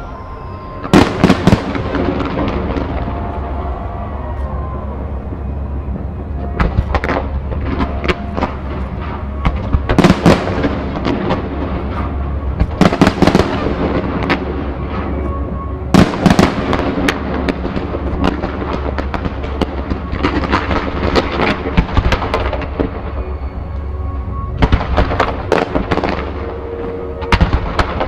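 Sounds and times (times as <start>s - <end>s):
fireworks bangs and crackles: 0.1s - 3.6s, 5.4s - 28.0s.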